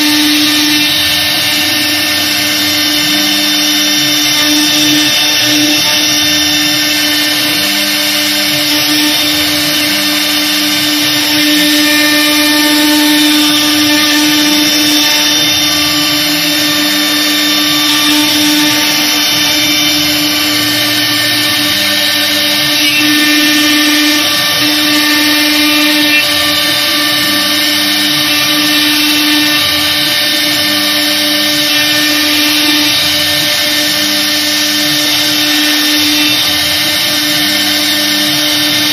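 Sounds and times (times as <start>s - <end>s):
bit carving fiberboard: 0.0s - 38.9s
router spindle whining: 0.0s - 38.9s.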